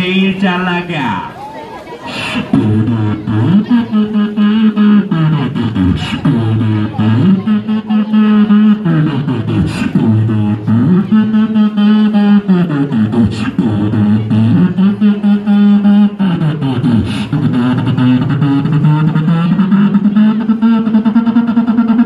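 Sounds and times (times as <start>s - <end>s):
beatboxing into a microphone: 0.0s - 1.4s, 2.0s - 22.0s.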